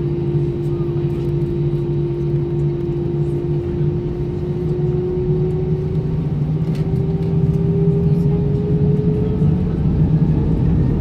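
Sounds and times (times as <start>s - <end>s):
jet engines humming: 0.0s - 11.0s.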